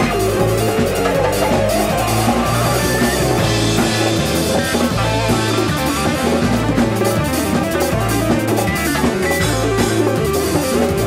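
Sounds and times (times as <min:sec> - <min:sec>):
drum kit: 0:00.0 - 0:11.0
electric bass: 0:00.0 - 0:11.0
electric guitar: 0:00.0 - 0:11.0.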